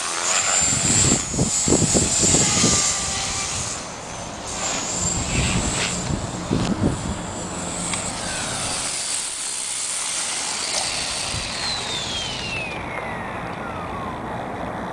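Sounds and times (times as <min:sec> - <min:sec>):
model helicopter rotor spooling down: 0:00.0 - 0:14.5
falling whine: 0:00.0 - 0:14.9.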